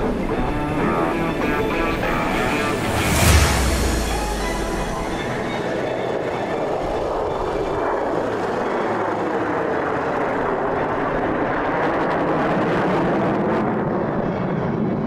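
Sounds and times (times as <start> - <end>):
jet roar overhead: 0.0 - 15.0.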